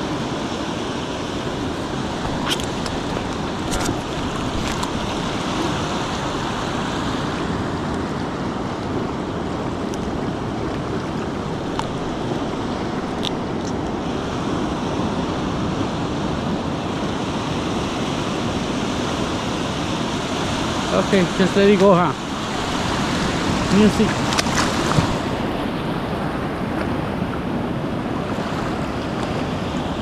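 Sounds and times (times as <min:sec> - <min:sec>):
ocean surf washing on shore: 0:00.0 - 0:30.0.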